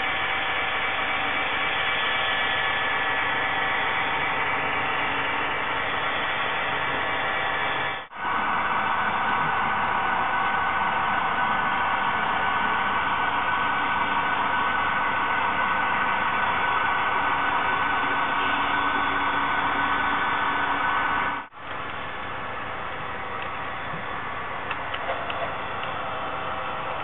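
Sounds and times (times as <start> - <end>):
model train diesel engine drone: 0.0 - 27.0.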